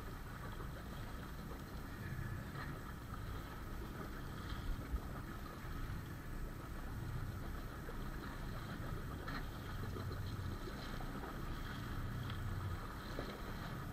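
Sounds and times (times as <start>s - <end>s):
water washing against boat: 0.0s - 13.9s
wind: 0.0s - 13.9s.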